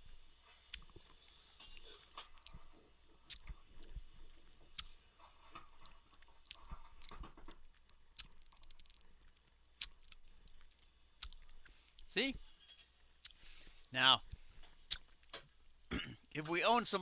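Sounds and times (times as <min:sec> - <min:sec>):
person chewing food: 0:00.1 - 0:12.1, 0:13.2 - 0:15.9.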